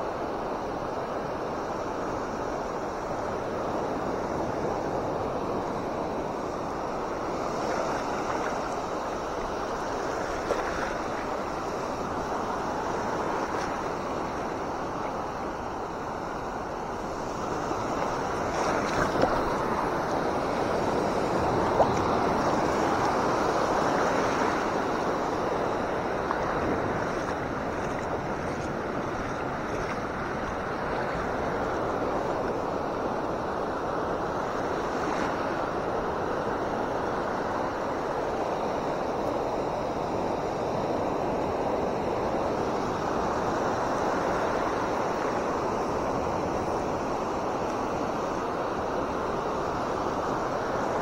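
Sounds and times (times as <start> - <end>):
surf washing over shore: 0.0 - 51.0.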